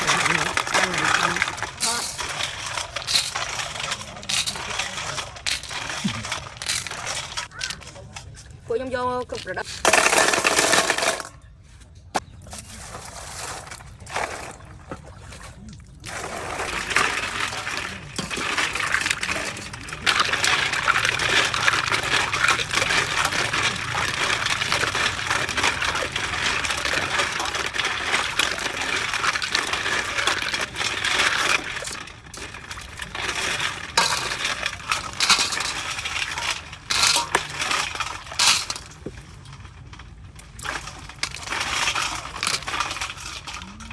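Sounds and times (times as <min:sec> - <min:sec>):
shells clinking and rattling: 0:00.0 - 0:07.9, 0:09.6 - 0:11.4, 0:16.6 - 0:39.1, 0:40.6 - 0:43.8.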